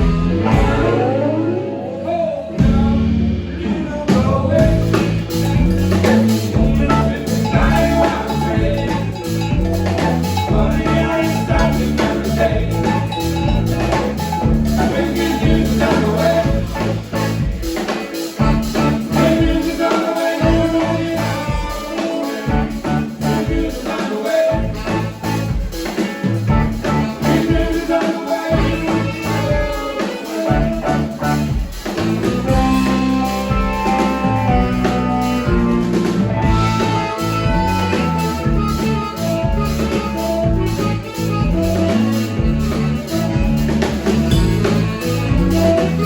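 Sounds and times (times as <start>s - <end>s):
stepping bass line: 0.0s - 1.4s, 4.2s - 17.8s, 18.4s - 21.7s, 22.5s - 23.8s, 24.5s - 27.9s, 28.5s - 29.6s, 30.5s - 46.0s
live rock band playing: 0.0s - 46.0s.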